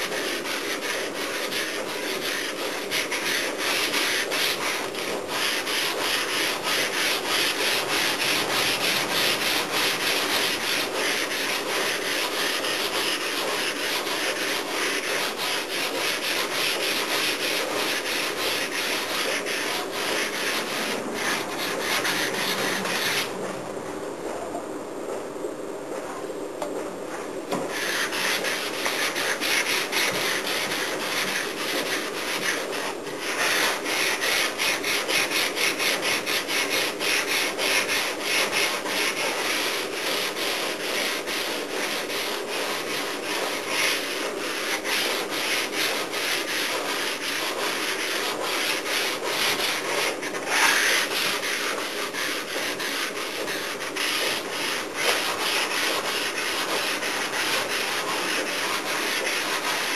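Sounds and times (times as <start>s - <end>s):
sanding block rubbing: 0.0s - 23.4s, 27.5s - 59.9s.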